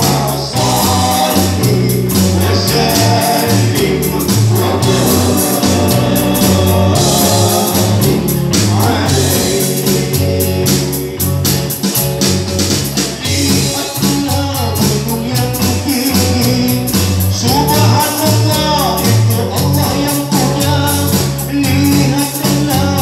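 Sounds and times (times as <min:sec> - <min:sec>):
person singing: 0:00.0 - 0:11.6, 0:13.1 - 0:23.0
live band playing devotional song: 0:00.0 - 0:23.0.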